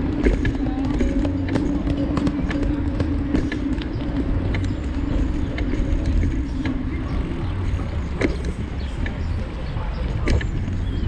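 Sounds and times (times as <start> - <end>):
bicycle tyres rumbling on dirt: 0.0 - 11.0
bike clicks and rattles: 0.0 - 11.0.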